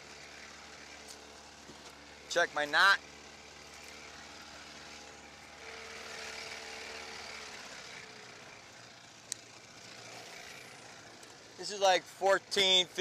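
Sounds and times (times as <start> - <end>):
small boat motor running: 0.0 - 13.0.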